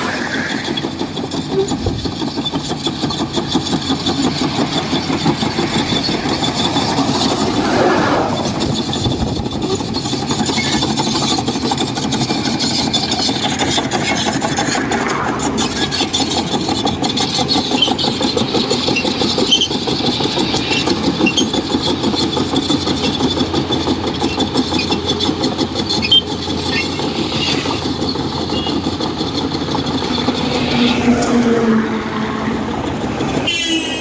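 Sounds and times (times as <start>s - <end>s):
excavator diesel engine throbbing: 0.0s - 34.0s.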